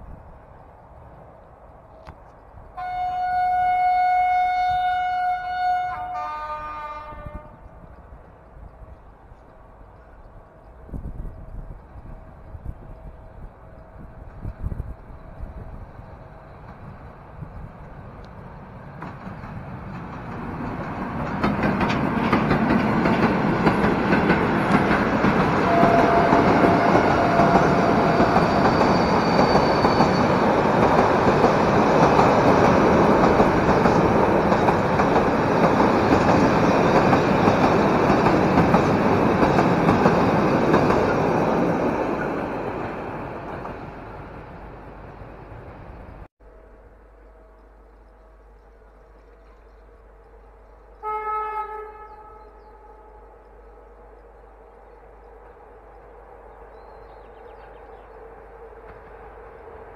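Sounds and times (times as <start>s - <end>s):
train passing by: 0.0s - 59.9s.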